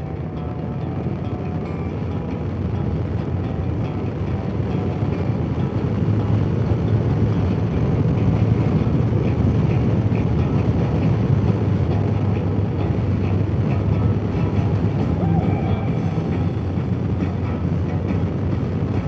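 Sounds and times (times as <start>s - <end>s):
motorcycle engine drone: 0.0s - 19.0s
wind rushing over microphone: 0.0s - 19.0s.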